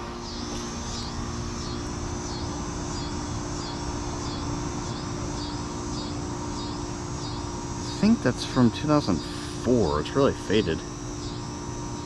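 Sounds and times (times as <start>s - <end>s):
air conditioner hum and fan: 0.0s - 12.0s
insect pulsing call: 0.0s - 12.0s.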